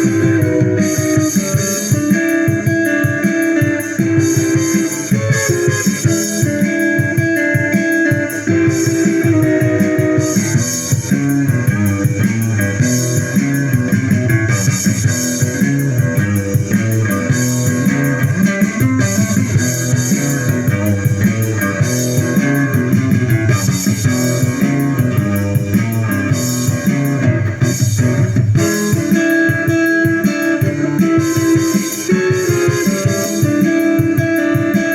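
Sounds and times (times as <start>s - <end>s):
bass guitar line: 0.0s - 34.9s
rock guitar music: 0.0s - 34.9s.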